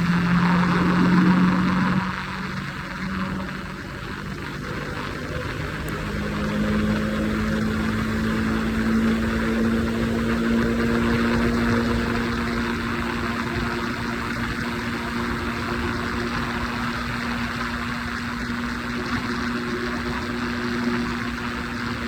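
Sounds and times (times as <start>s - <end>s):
motorcycle engine cruising: 0.0s - 22.0s
wind and tyre noise: 0.0s - 22.0s.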